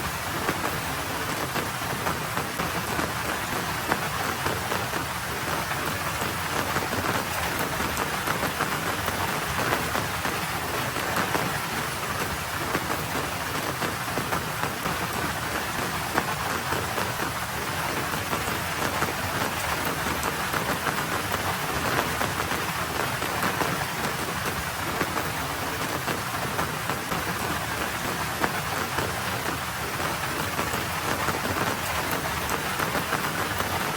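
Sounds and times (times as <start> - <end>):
light rain on a road: 0.0 - 33.9.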